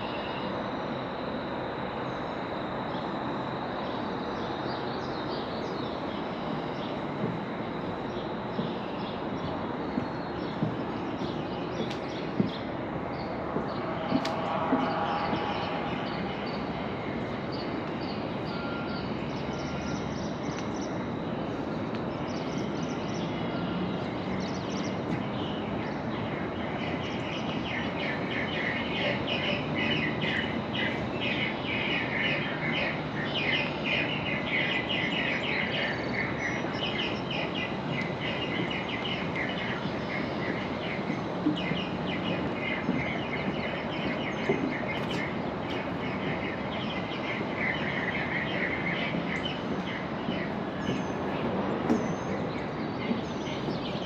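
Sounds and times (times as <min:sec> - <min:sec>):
outdoor background noise: 0:00.0 - 0:54.0.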